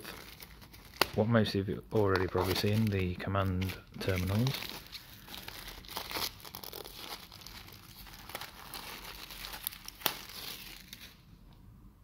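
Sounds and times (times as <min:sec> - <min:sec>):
plastic wrap crinkling and tearing: 0:00.0 - 0:11.3.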